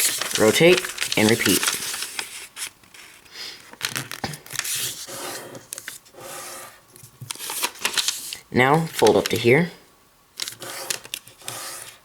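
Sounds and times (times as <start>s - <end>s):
paper rustling and creasing: 0.0s - 9.7s, 10.4s - 12.0s.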